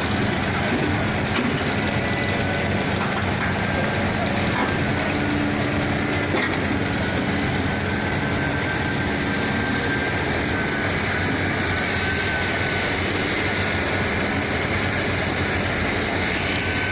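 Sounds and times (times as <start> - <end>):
vehicle rumble and road hiss: 0.0 - 16.9.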